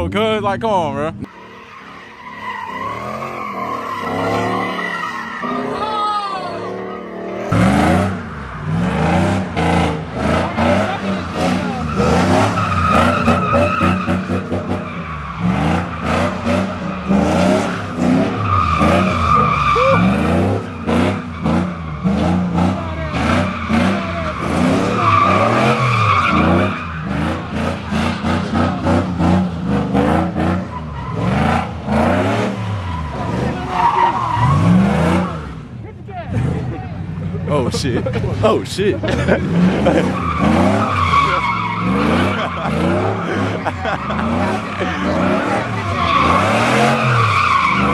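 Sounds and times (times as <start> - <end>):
car engine revving: 1.2 - 47.9
tires squealing: 1.2 - 47.9.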